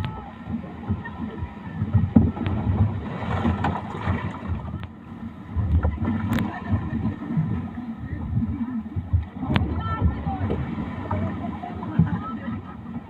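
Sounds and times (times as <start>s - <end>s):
boat and water noise: 0.0s - 13.0s
wind rumble on microphone: 0.0s - 13.0s.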